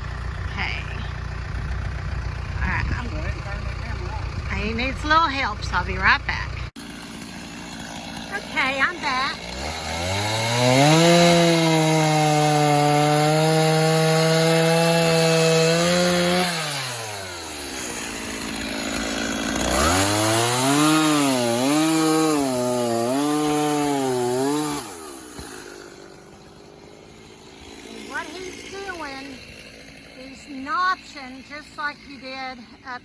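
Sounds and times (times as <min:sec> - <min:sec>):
chainsaw cutting log: 0:00.0 - 0:33.0
chainsaw revving: 0:00.0 - 0:33.0.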